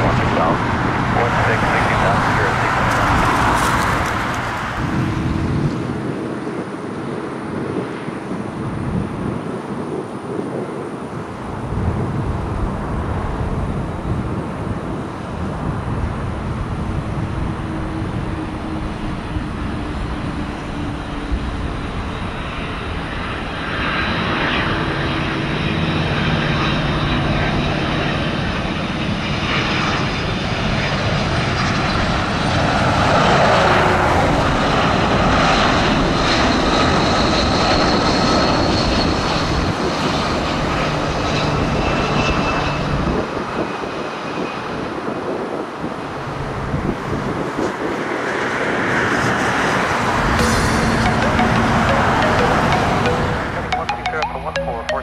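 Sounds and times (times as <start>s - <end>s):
jet engines rumbling and whining: 0.0s - 54.6s.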